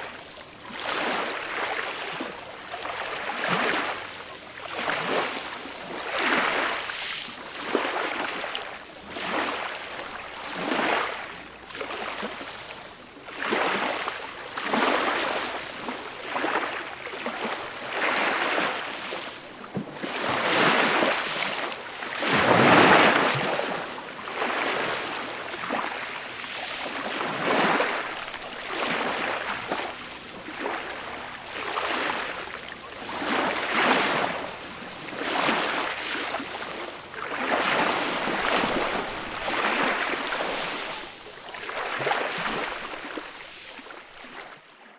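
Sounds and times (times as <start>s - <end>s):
gentle sea waves breaking: 0.0s - 44.9s.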